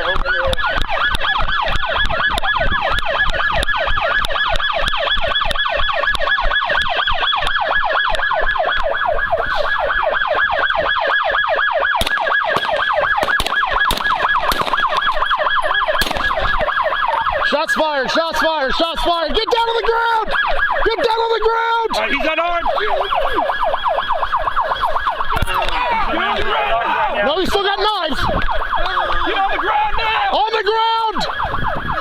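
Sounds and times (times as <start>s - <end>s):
police siren yelping: 0.0s - 32.0s.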